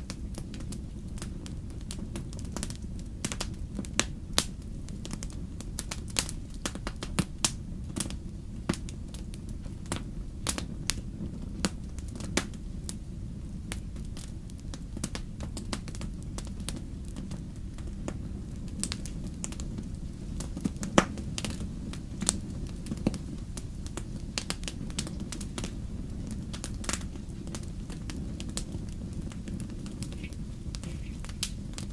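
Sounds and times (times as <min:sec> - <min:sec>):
burning wood popping and snapping: 0:00.0 - 0:31.9
low rumble of flames: 0:00.0 - 0:31.9.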